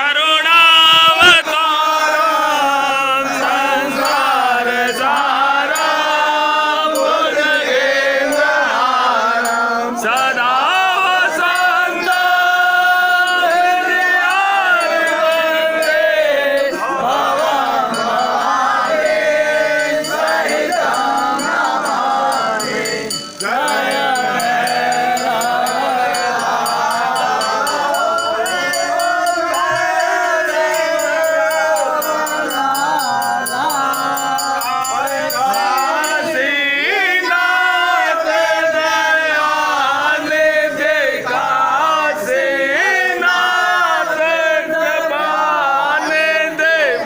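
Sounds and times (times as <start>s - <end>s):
person chanting a hymn: 0.0s - 47.0s.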